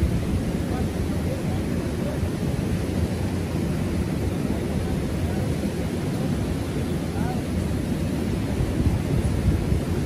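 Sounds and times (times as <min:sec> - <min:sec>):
fast-flowing river water: 0:00.0 - 0:10.0.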